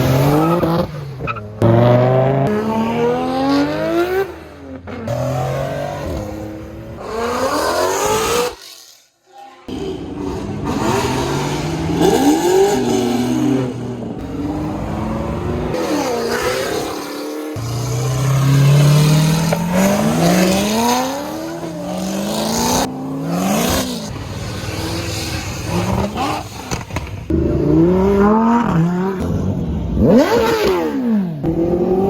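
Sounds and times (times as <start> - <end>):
car engines revving: 0.0 - 8.9, 9.7 - 32.0.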